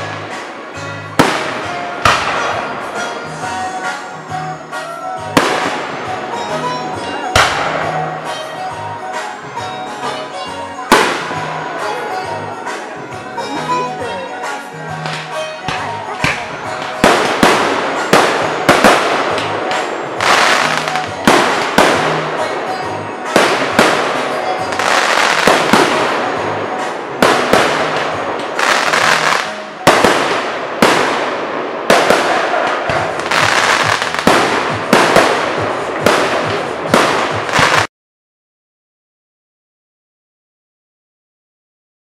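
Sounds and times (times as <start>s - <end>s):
fireworks bangs with echo: 0.0s - 13.2s, 14.5s - 37.9s
fireworks crackling: 0.0s - 37.9s.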